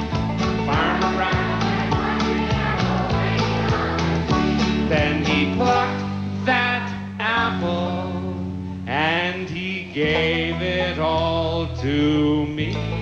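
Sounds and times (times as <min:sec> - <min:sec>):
acoustic guitar: 0:00.0 - 0:13.0
voices singing held notes: 0:00.0 - 0:13.0.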